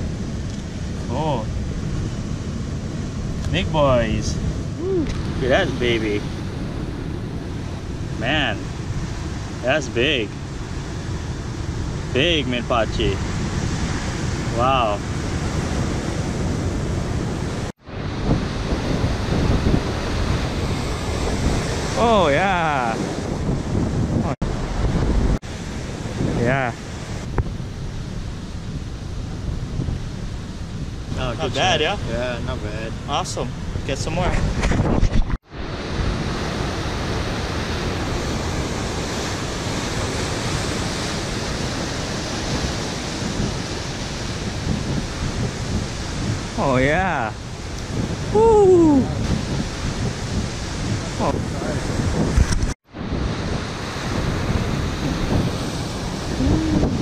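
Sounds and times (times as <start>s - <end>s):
surf: 0.0s - 57.0s
wind buffeting microphone: 0.0s - 57.0s.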